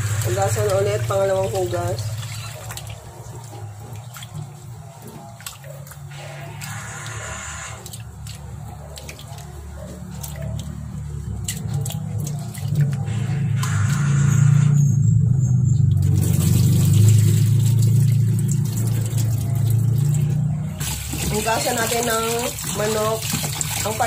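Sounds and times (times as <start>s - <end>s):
water splashing in metal sink: 0.0s - 14.5s, 15.6s - 24.0s
water pouring off: 0.0s - 14.6s, 15.8s - 24.0s.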